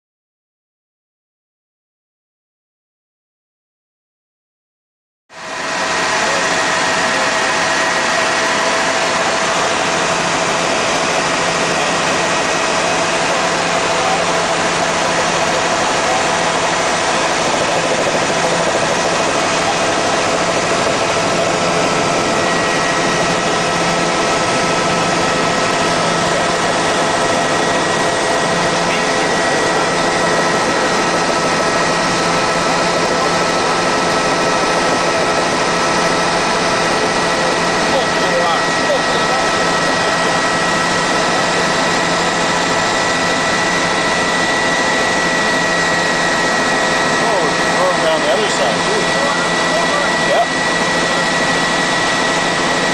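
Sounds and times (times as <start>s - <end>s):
helicopter engine and rotor: 5.4s - 52.9s
whining tones: 5.4s - 52.9s.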